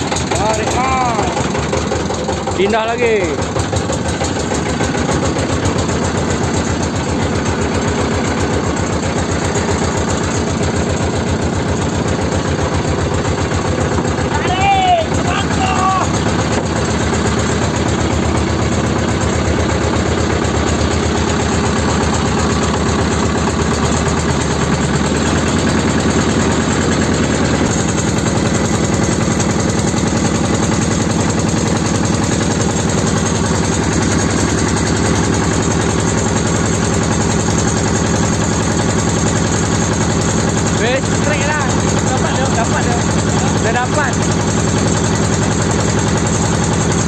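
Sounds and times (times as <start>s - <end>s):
motorboat engine running: 0.0s - 47.0s.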